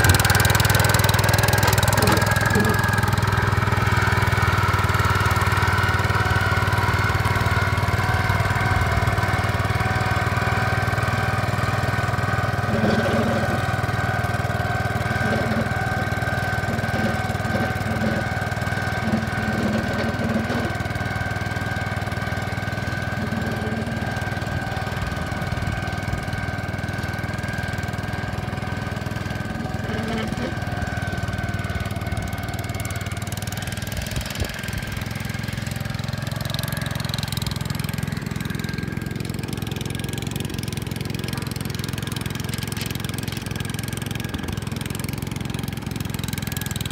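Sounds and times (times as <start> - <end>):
tractor engine humming: 0.0 - 46.9.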